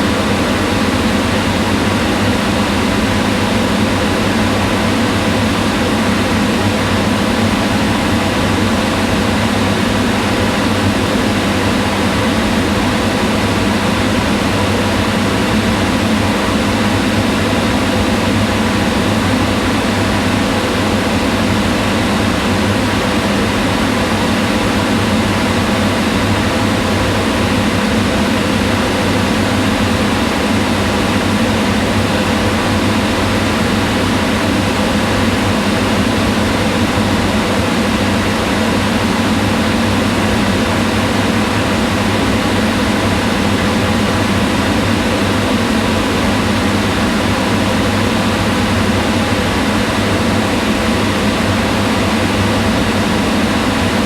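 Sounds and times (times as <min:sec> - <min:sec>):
range hood fan whirring: 0:00.0 - 0:54.0.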